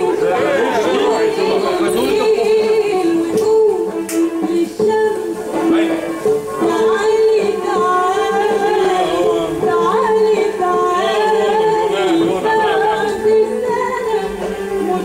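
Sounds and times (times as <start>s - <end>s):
voice singing with pitch bends: 0.0s - 15.0s.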